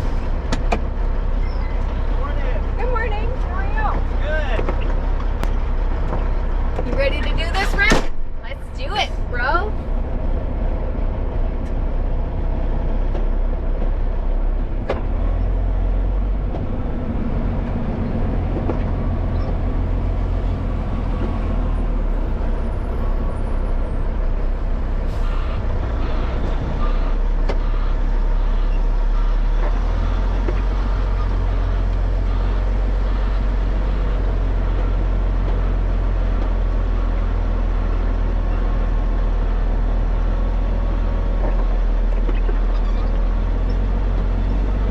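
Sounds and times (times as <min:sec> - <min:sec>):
road noise: 0:00.0 - 0:44.9
truck diesel engine rumble: 0:00.0 - 0:44.9.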